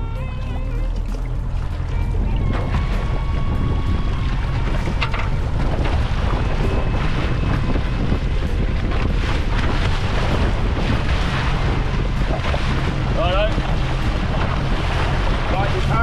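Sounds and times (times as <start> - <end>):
boat and water rumble: 0.0 - 16.0
wind buffeting microphone: 0.0 - 16.0.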